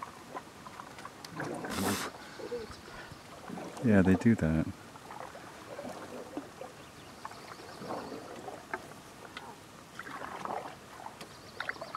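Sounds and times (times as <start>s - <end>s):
water lapping against canoe hull: 0.0s - 11.9s.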